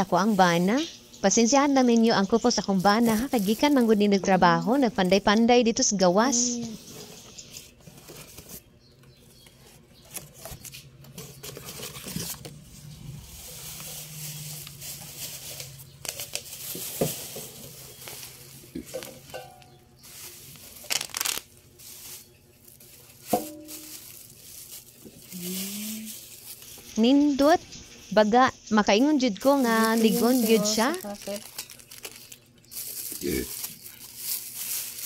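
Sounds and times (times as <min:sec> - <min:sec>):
plastic wrap crinkling: 0:00.0 - 0:08.7, 0:09.4 - 0:27.6, 0:29.4 - 0:35.0.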